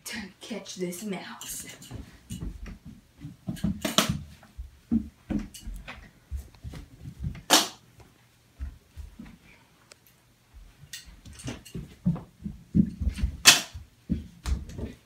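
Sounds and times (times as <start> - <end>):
footsteps on hardwood floor: 1.7 - 9.6, 10.5 - 15.0.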